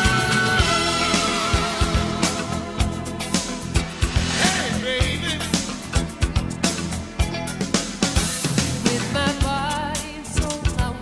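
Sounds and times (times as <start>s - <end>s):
pop music with drum beat: 0.0s - 11.0s.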